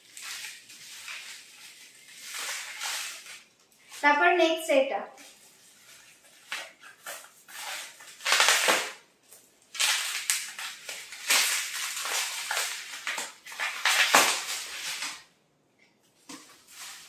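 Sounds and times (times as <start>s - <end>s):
bubble wrap crinkling: 0.0s - 4.6s, 5.2s - 15.4s, 16.1s - 17.0s.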